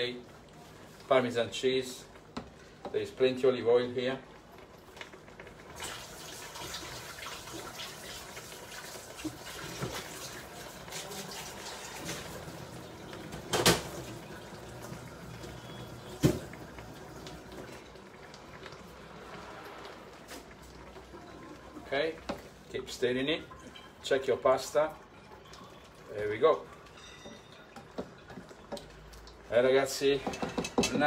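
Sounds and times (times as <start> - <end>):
pasta bubbling in stock: 0.0 - 31.0.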